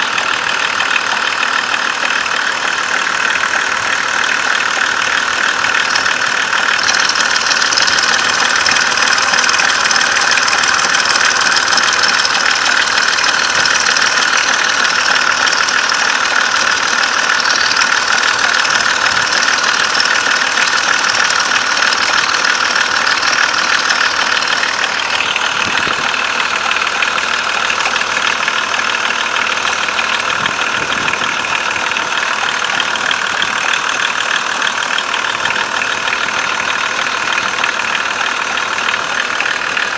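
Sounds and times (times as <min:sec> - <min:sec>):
diesel engine running with knock: 0:00.0 - 0:39.9.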